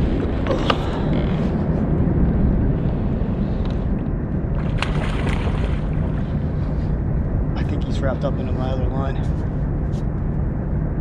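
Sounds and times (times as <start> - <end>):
low rumbling microphone noise: 0.0 - 11.0.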